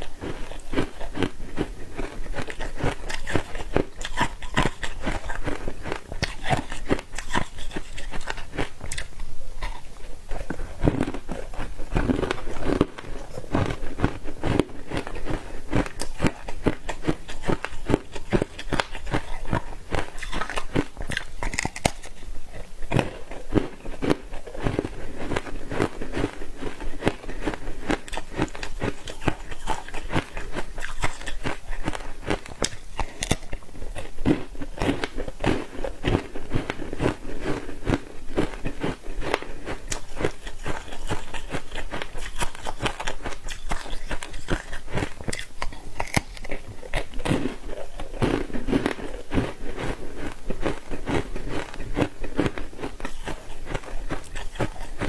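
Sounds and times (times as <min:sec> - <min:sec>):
person crunching ice: 0:00.0 - 0:55.0.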